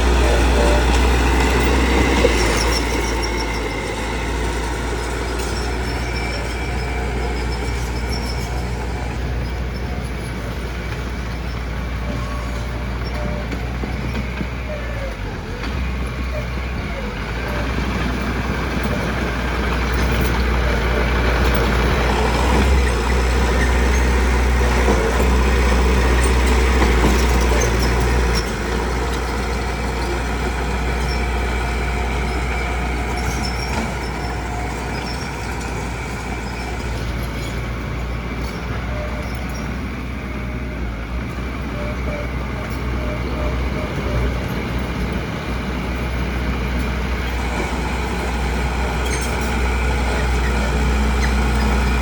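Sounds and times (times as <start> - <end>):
diesel engine droning under load: 0.0 - 52.0.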